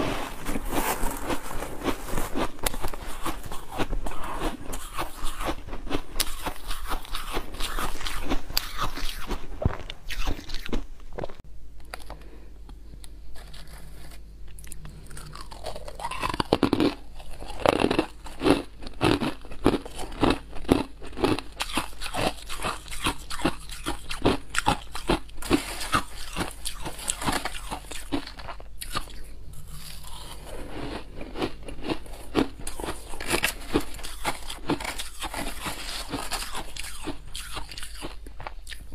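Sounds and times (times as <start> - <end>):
crunching and chewing ice: 0.0 - 12.2, 13.3 - 38.9.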